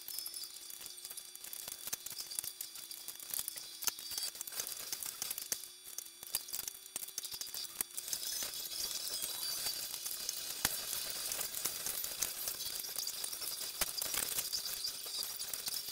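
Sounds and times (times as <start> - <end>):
small plastic pieces clattering: 0.1 - 15.9.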